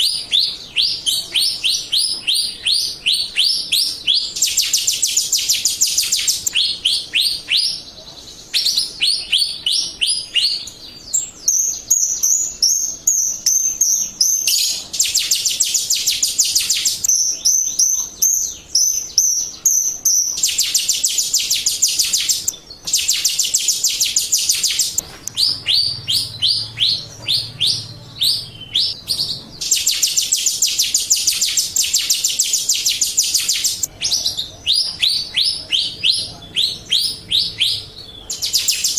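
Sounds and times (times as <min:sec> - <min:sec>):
high whistled bird notes: 0:00.0 - 0:07.9, 0:08.5 - 0:38.9
starling sharp chirps: 0:00.0 - 0:38.9.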